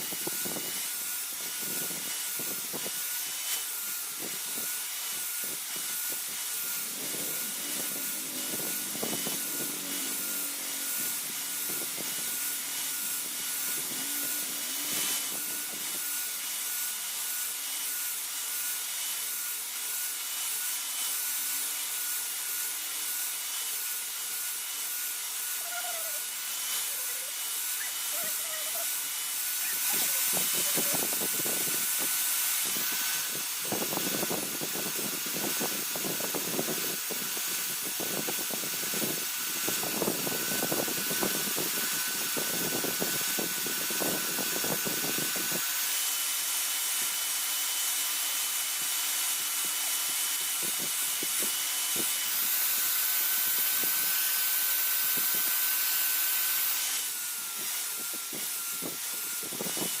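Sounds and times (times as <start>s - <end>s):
electric grinder whining: 0.0s - 60.0s
grinder scraping steel: 0.0s - 60.0s.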